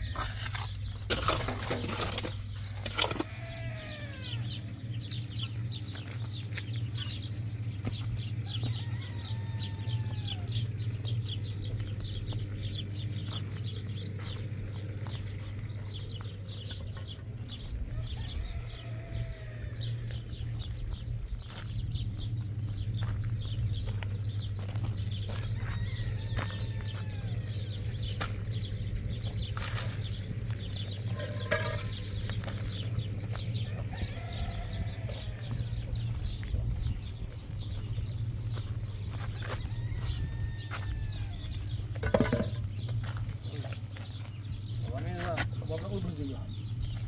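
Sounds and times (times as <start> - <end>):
birds chirping: 0.0 - 47.0
steady low hum: 0.0 - 47.0.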